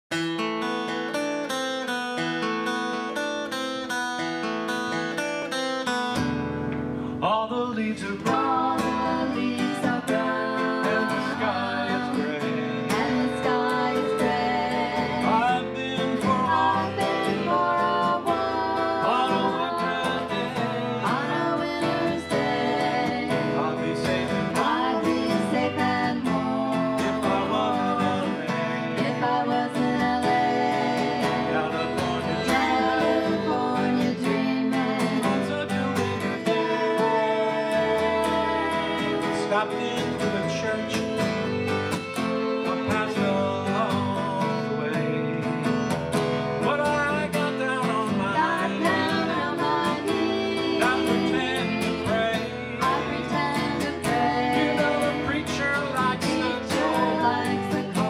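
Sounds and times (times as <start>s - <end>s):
acoustic guitar picked: 0.1s - 58.0s
man singing: 7.1s - 58.0s.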